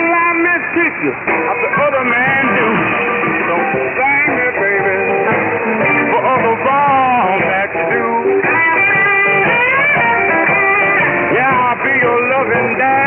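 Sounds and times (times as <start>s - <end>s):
muffled rock music on radio: 0.0s - 13.0s.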